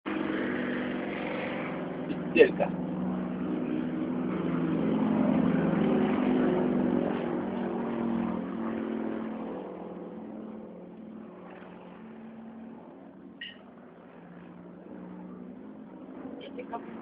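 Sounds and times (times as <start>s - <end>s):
propeller airplane flying past: 0.1s - 17.0s.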